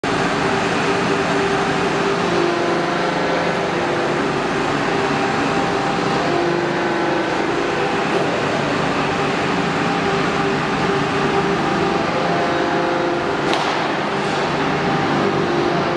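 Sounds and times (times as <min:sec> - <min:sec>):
air conditioner rush of air: 0:00.0 - 0:15.9.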